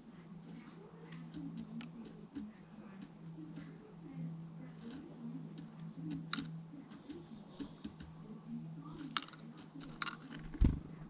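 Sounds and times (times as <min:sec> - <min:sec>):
bird pecking at seed: 0:00.0 - 0:10.9.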